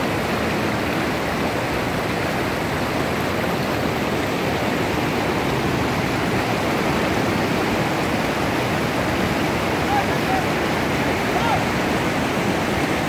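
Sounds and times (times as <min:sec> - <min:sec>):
river rushing over boulders: 0:00.0 - 0:13.0.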